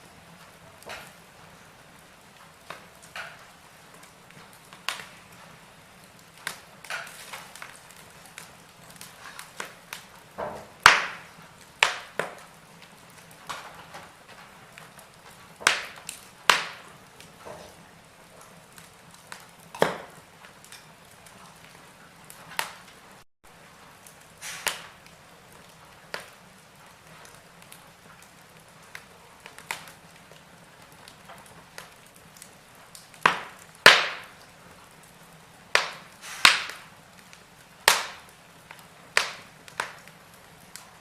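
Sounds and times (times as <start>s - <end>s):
faint fire hiss: 0.0s - 41.0s
wood fire crackling and popping: 0.0s - 41.0s.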